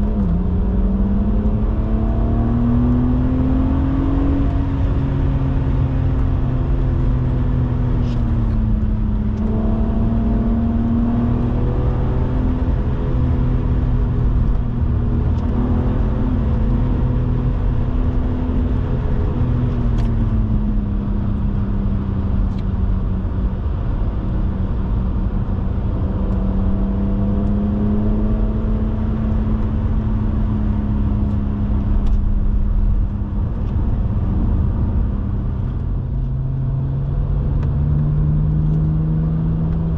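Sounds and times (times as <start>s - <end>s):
car engine cruising: 0.0s - 39.9s
road noise rumble: 0.0s - 39.9s.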